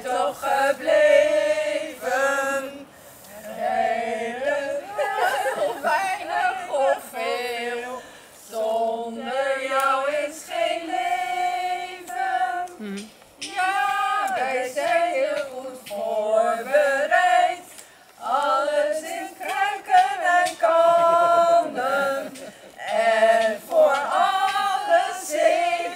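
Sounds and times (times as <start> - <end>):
women singing together: 0.0 - 25.9.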